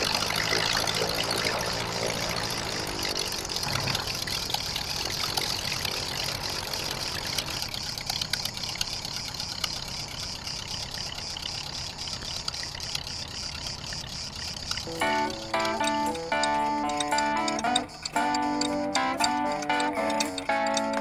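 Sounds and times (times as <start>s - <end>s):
ultralight aircraft engine and propeller: 0.0s - 21.0s.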